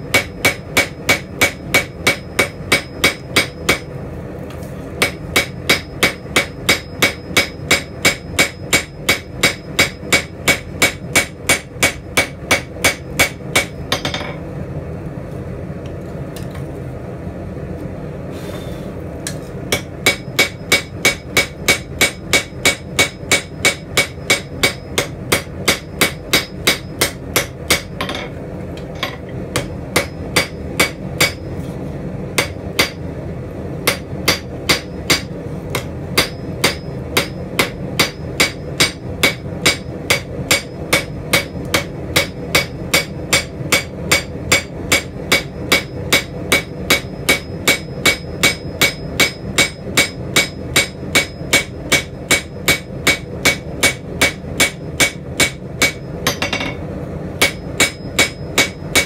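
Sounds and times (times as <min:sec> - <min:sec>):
hammer striking steel on anvil: 0:00.0 - 0:04.0, 0:05.0 - 0:14.4, 0:19.3 - 0:31.6, 0:32.4 - 0:33.1, 0:33.8 - 0:59.0.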